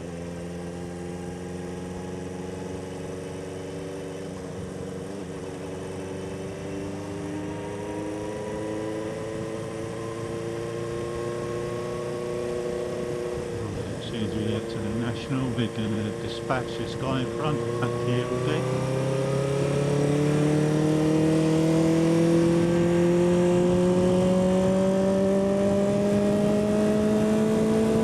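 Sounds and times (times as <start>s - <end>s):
motorcycle engine running under load: 0.0s - 28.0s
road and wind noise: 0.0s - 28.0s.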